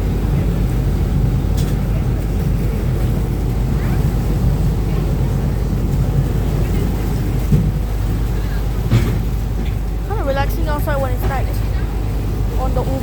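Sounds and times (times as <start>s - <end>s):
low boat engine drone: 0.0s - 13.0s
rushing water: 0.0s - 13.0s
wind: 0.0s - 13.0s.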